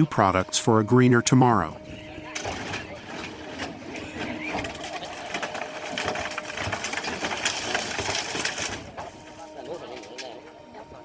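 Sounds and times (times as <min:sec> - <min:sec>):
machine hum: 0:00.0 - 0:11.0
metal crunching: 0:00.0 - 0:11.0.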